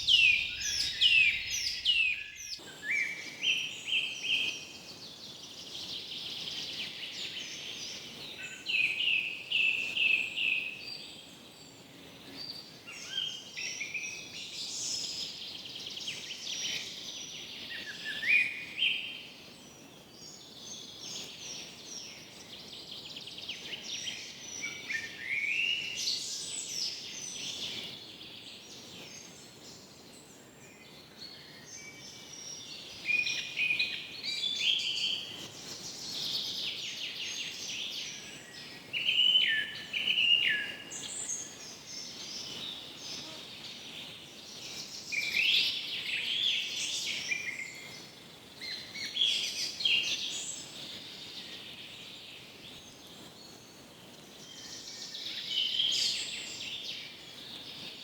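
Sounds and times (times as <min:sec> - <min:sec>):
faint background hiss: 0:00.0 - 0:58.0
forest birds singing: 0:00.0 - 0:58.0.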